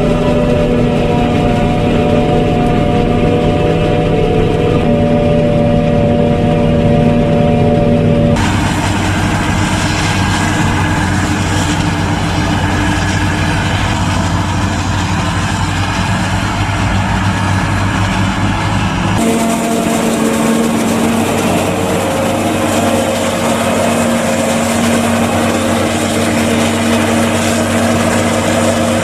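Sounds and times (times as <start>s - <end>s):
engine and driveline hum: 0.0s - 29.0s
rough engine rush outside: 0.0s - 29.0s.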